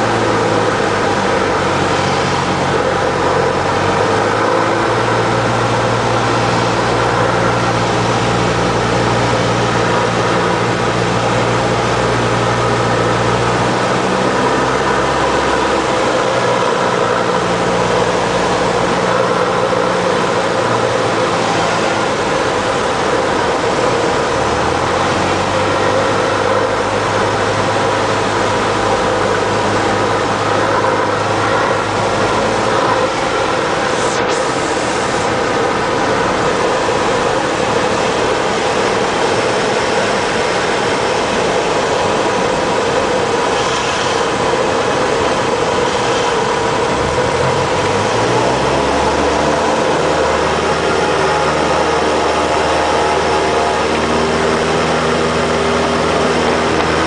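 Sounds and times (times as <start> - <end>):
light plane engine and propeller drone: 0.0 - 57.0.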